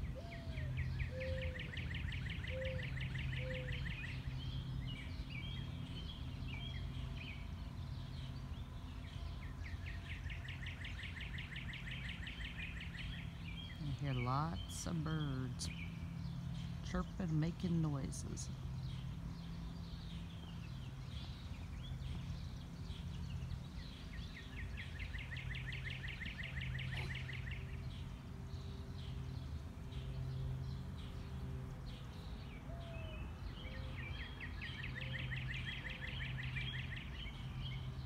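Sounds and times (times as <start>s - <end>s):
low background hum: 0.0s - 38.0s
songbirds chirping and singing: 0.0s - 38.0s.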